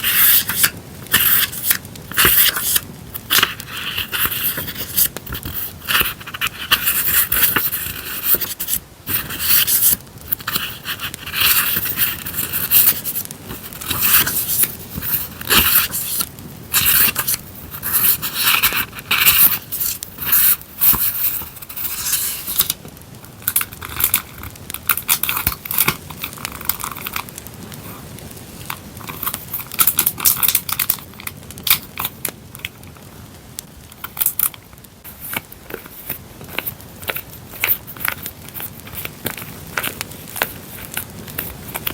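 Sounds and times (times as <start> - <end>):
paper and packaging rustling: 0.0 - 28.0, 34.0 - 41.9
campfire crackling: 0.0 - 41.9.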